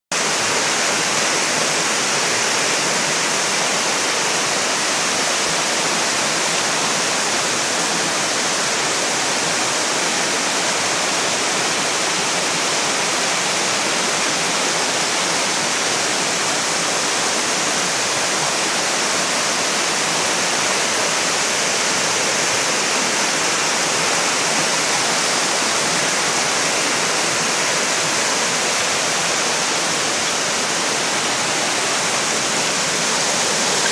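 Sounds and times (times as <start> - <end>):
stream rushing: 0.1 - 33.9.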